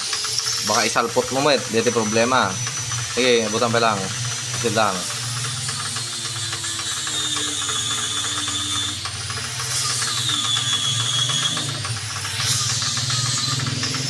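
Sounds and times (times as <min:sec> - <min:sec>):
low machine hum: 0:00.0 - 0:14.0
mechanical ratchet clicking: 0:00.0 - 0:14.0.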